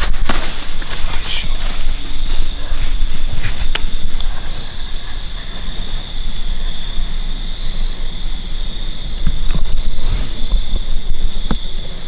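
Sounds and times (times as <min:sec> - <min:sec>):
crickets chirping: 0:00.0 - 0:12.0
low microphone rumble: 0:00.0 - 0:12.0.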